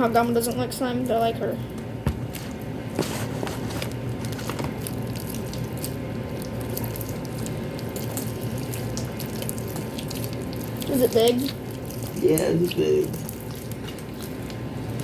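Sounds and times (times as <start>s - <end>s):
slime squelching by hand: 0.0s - 15.0s.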